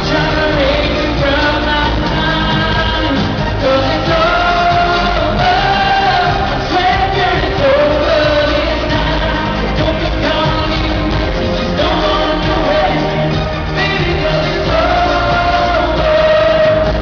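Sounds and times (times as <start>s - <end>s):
live band accompaniment: 0.0s - 17.0s
man singing long sliding notes: 0.0s - 17.0s.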